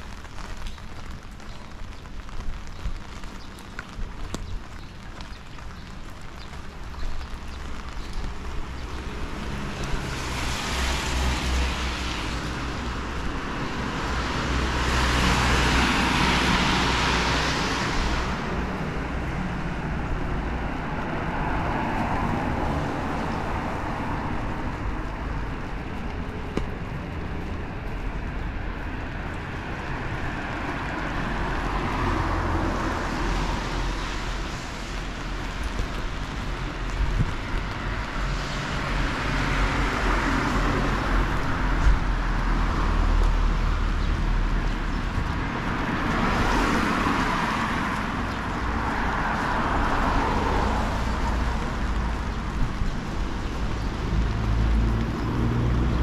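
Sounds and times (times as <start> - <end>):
low traffic rumble: 0.0 - 56.0
tyres hissing on wet road: 0.0 - 56.0.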